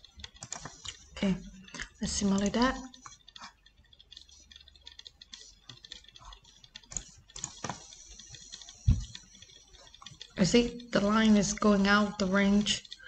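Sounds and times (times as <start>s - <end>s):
mouse and keyboard clicks: 0.0s - 1.1s, 1.7s - 13.0s.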